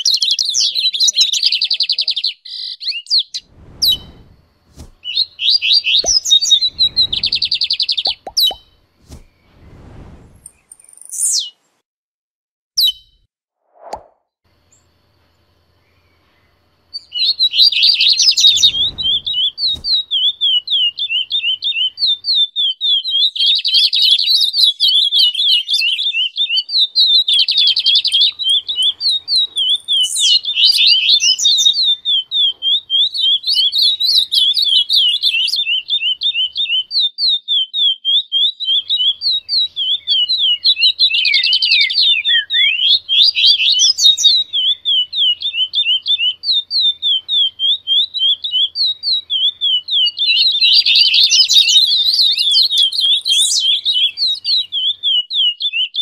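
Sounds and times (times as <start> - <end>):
bursts of higher birdsong: 0.0 - 11.8, 14.6 - 56.0
bird repeating quick chirps: 0.1 - 9.7, 17.0 - 56.0.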